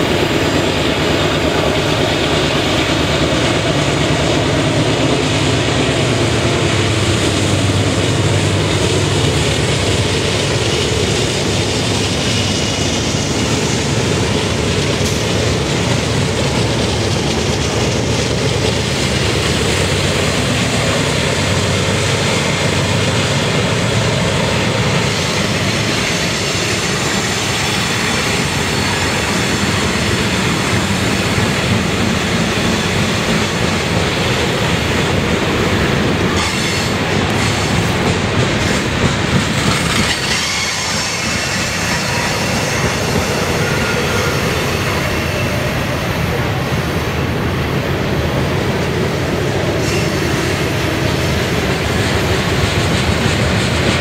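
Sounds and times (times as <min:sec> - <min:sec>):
heavy locomotive engine drone: 0:00.0 - 0:54.0
train rolling rumble: 0:00.0 - 0:54.0.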